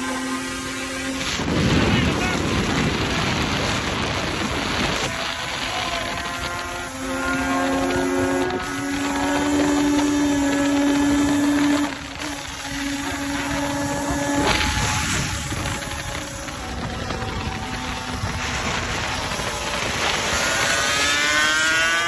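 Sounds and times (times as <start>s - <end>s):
quad bike engine running: 0.0s - 22.0s
wind on microphone: 0.0s - 22.0s.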